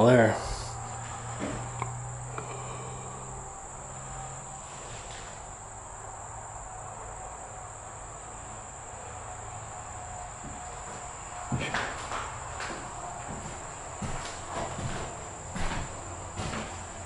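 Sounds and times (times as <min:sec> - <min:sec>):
highway traffic drone: 0:00.0 - 0:17.0
insects trilling: 0:00.0 - 0:17.0.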